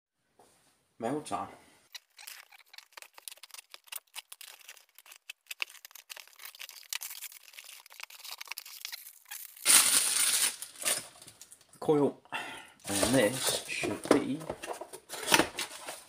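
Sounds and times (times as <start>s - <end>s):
packing paper and plastic rustling: 1.9s - 11.7s, 12.8s - 16.0s.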